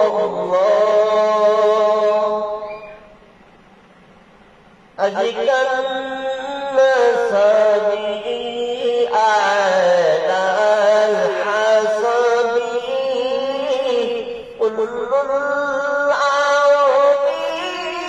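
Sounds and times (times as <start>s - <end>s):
man singing into microphone: 0.0s - 3.1s, 5.0s - 18.0s.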